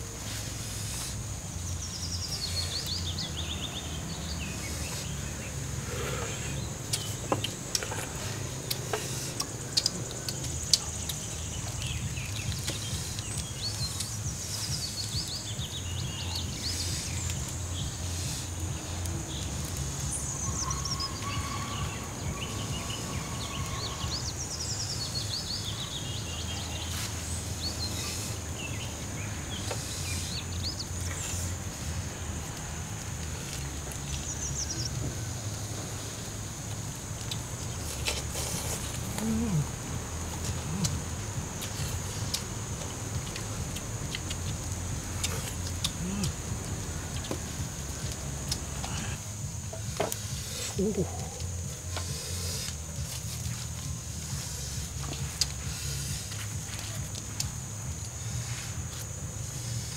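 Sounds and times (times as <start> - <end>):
birds calling: 0.3 - 59.9.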